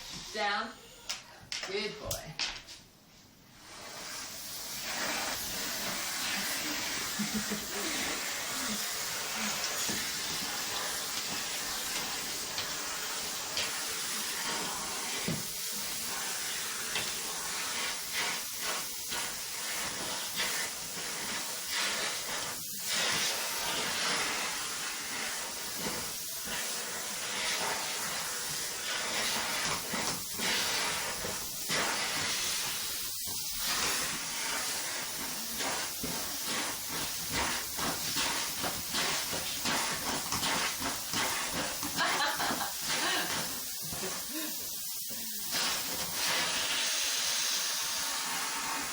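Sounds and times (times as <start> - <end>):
vacuum cleaner running: 0.0 - 0.6, 3.6 - 48.9.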